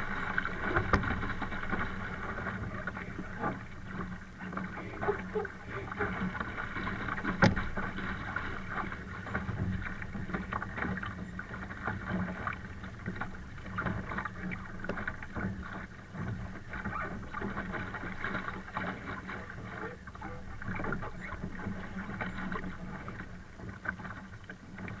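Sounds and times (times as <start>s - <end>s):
water splashing along a hull: 0.0s - 25.0s.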